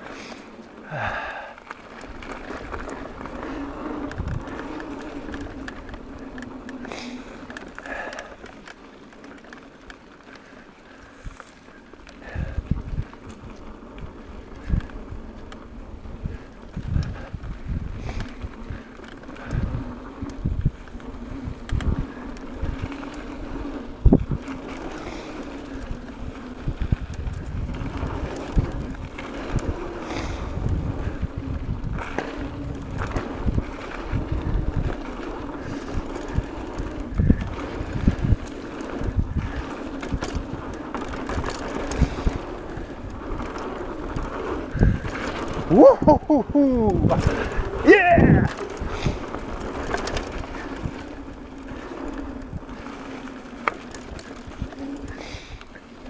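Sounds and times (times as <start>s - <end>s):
bike tyres rumbling on dirt: 0.0s - 56.0s
wind buffeting microphone: 0.8s - 8.4s, 12.2s - 56.0s.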